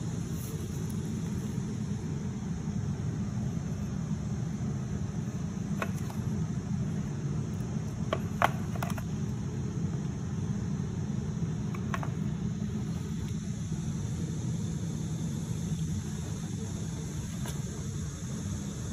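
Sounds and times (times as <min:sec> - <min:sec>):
low background rumble: 0:00.0 - 0:18.9.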